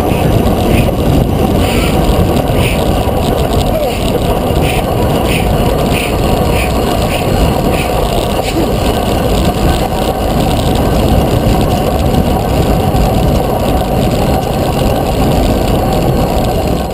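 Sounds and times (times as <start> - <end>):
wind rumble on microphone: 0.0 - 16.9.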